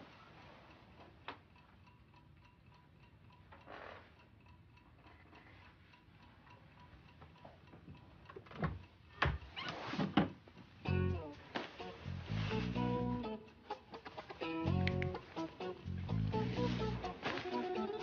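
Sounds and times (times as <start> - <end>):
clock ticking: 0.0 - 9.7, 10.4 - 12.2, 12.8 - 18.0.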